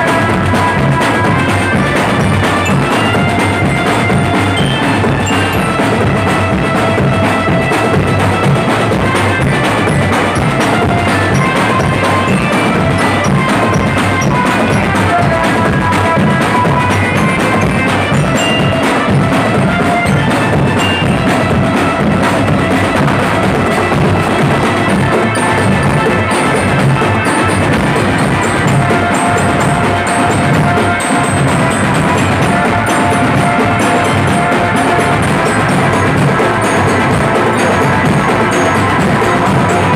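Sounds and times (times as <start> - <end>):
drum band playing: 0.0 - 39.9
held melody line: 0.0 - 39.9.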